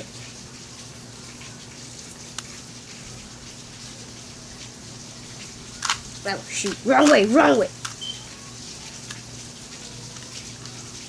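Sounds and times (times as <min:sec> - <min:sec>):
heavy rain hiss: 0:00.0 - 0:11.0.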